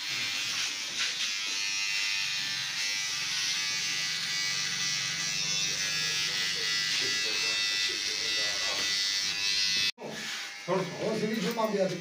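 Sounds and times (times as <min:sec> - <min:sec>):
electric hair clipper buzzing: 0:00.0 - 0:11.8.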